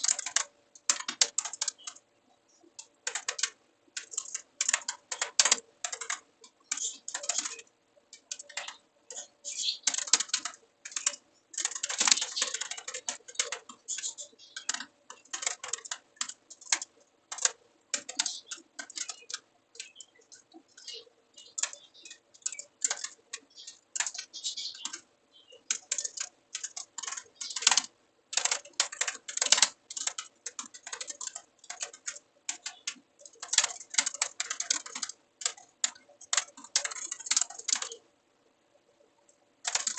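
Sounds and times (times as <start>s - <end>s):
computer keyboard typing: 0.0s - 2.0s, 2.8s - 38.0s, 39.6s - 39.9s.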